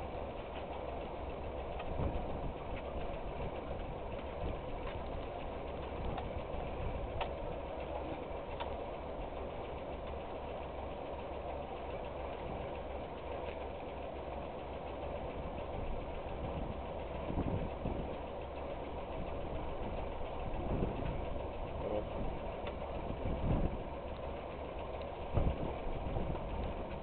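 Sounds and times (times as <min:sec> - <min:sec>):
tractor engine idling: 0:00.0 - 0:27.0.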